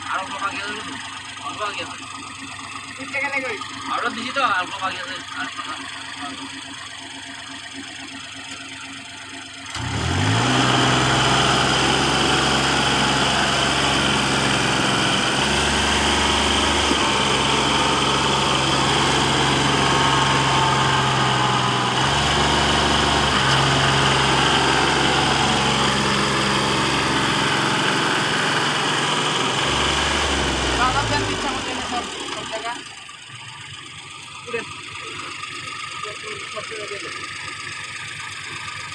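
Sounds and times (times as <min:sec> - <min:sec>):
large engine running: 0:00.0 - 0:38.9.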